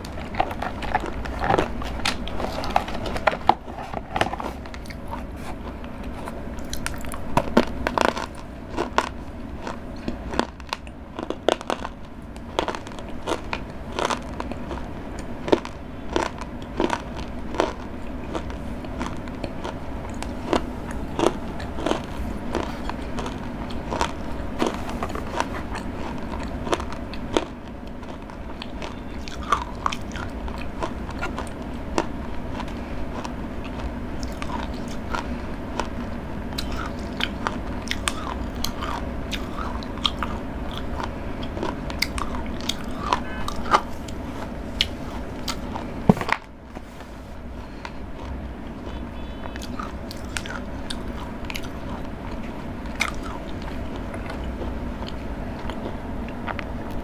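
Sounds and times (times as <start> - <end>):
person chewing chocolate: 0.0 - 57.0.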